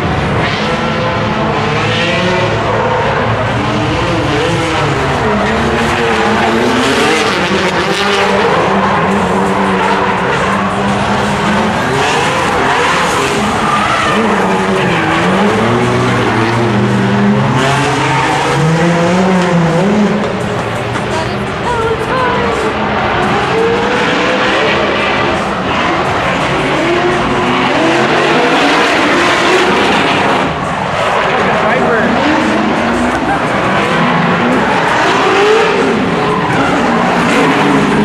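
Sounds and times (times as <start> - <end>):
car engines revving: 0.0 - 38.0
tyres skidding and squealing: 0.0 - 38.0.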